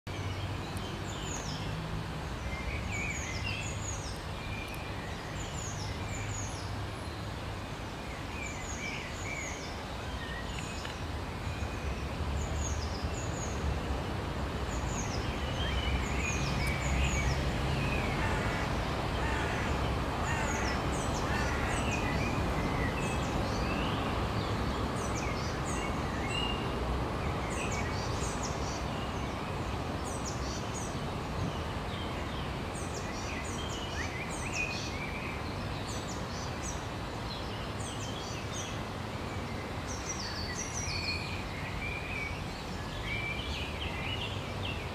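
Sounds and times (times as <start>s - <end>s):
small birds chirping: 0.1s - 44.9s
steady background noise: 0.1s - 44.9s.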